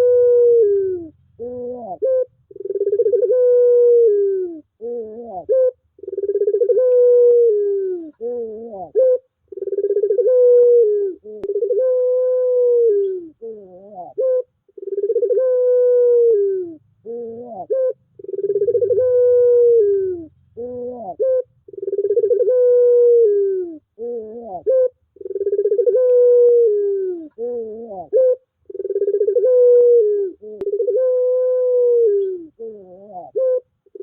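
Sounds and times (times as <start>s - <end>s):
turtle dove cooing: 0.0s - 34.0s.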